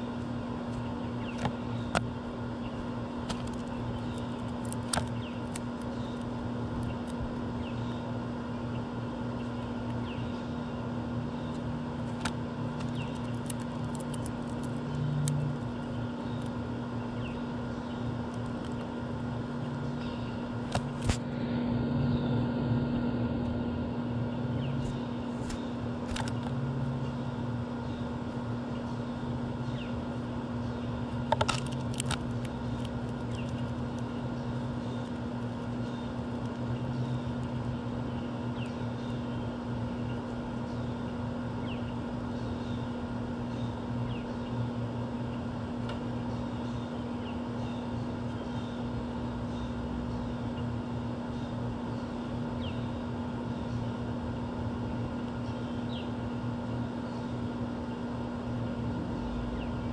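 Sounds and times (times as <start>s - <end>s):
city background hum: 0.0s - 59.9s.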